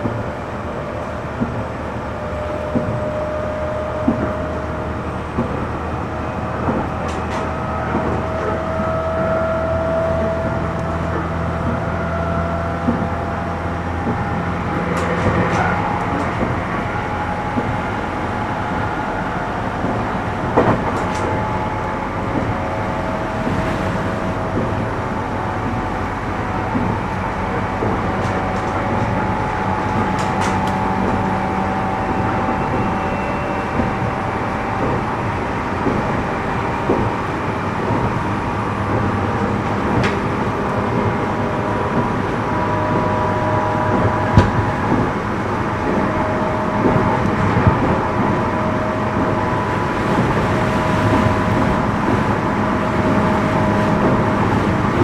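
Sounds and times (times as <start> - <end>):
train motors and rail noise: 0.0 - 55.0
wheels clicking over rail joints: 0.0 - 55.0.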